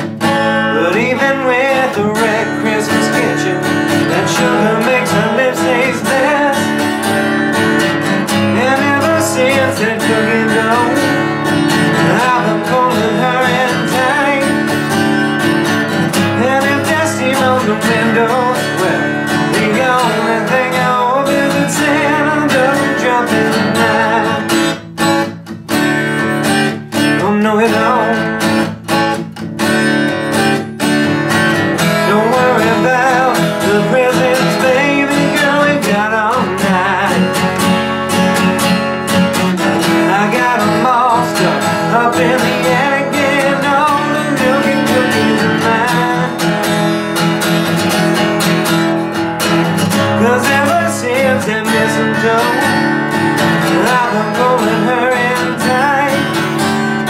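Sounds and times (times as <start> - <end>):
acoustic guitar strummed and picked: 0.0 - 57.0.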